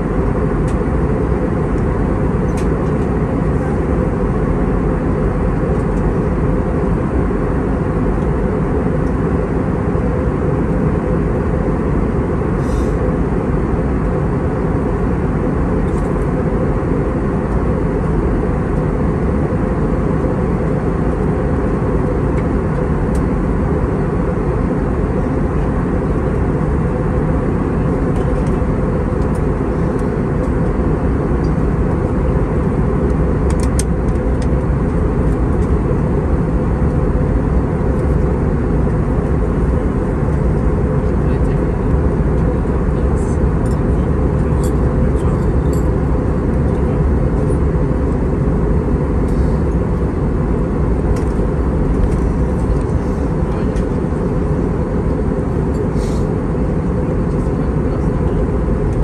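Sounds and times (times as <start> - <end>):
aircraft cabin engine roar: 0.0 - 59.0.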